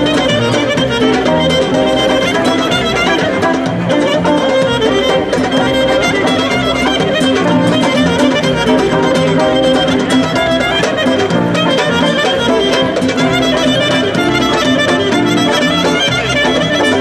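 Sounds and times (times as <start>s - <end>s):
folk dance band playing: 0.0s - 17.0s
violin melody: 0.0s - 17.0s.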